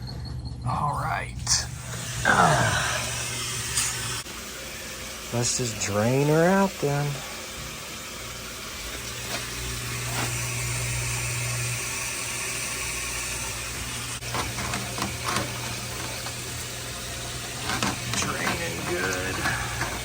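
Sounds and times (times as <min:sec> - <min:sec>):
dishwasher drain pump humming: 0:00.0 - 0:20.0.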